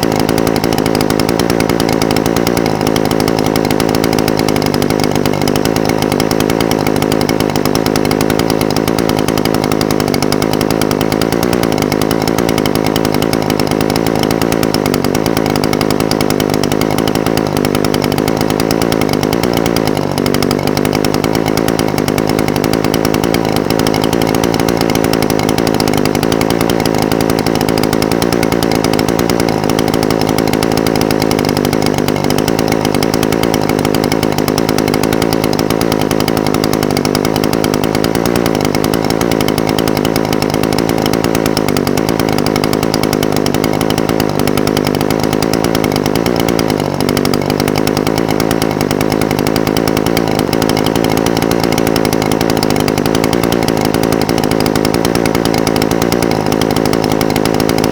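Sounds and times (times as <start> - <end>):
two-stroke engine idling: 0.0 - 57.9.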